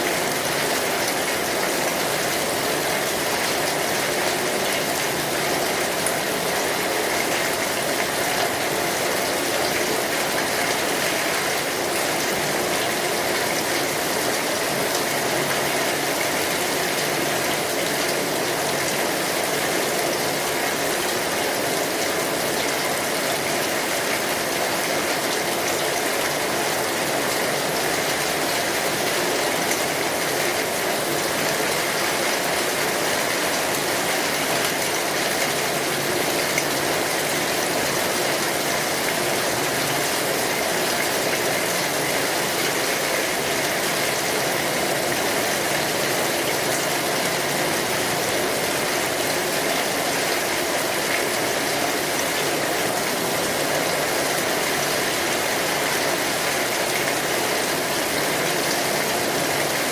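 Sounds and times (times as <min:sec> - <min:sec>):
rain falling on an umbrella: 0:00.0 - 0:59.9.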